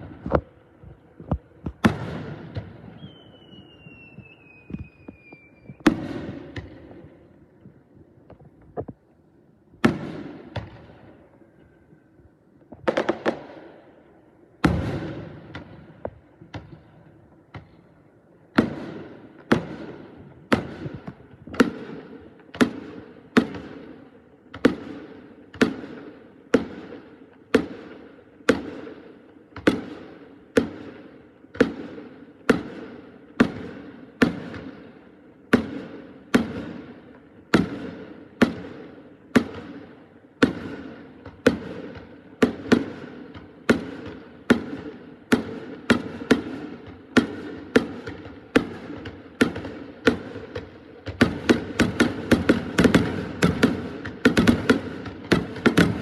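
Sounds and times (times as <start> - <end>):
fireworks exploding: 0.0 - 9.0, 9.8 - 11.2, 12.8 - 14.0, 14.6 - 56.0.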